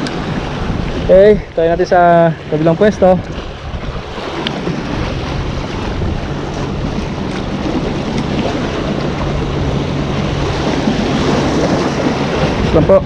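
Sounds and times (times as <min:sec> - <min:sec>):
waves breaking against rocks: 0:00.0 - 0:13.0
wind buffeting microphone: 0:00.0 - 0:13.0.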